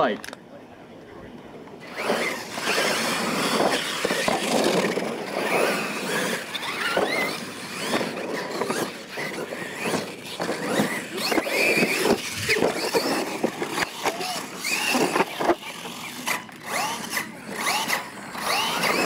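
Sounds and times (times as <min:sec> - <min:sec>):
electric motors whining: 0:01.4 - 0:19.0
tyres on gravel: 0:01.8 - 0:19.0.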